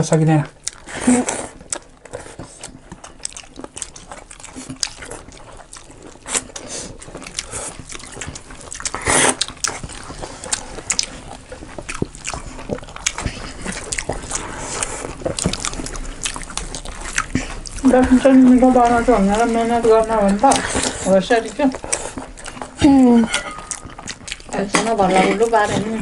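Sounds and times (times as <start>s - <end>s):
chewing and mouth smacks: 0.4s - 25.8s.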